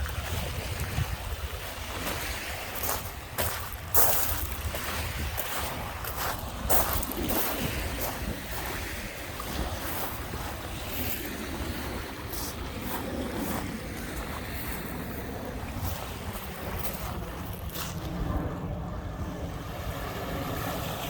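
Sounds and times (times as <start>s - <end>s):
waves washing onto shore: 0.0s - 21.0s
wind buffeting microphone: 0.0s - 21.0s.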